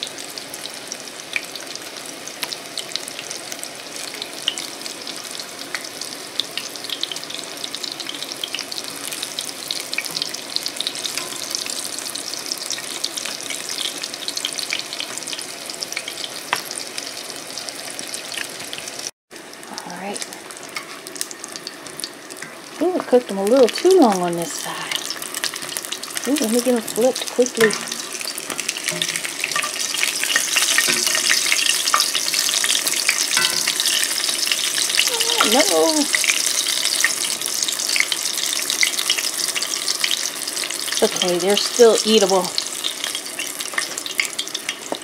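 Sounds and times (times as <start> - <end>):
eggs sizzling in hot oil: 0.0 - 45.0.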